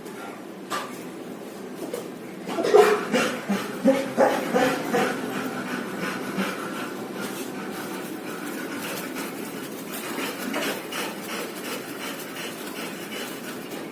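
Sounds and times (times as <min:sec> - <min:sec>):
rhythmic clicking and rubbing: 0:01.0 - 0:13.9.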